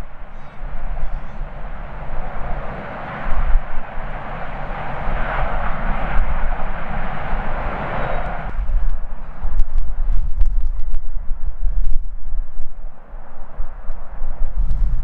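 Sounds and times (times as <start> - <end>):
jet engines under thrust: 0.0 - 15.0
wind buffeting microphone: 0.0 - 15.0.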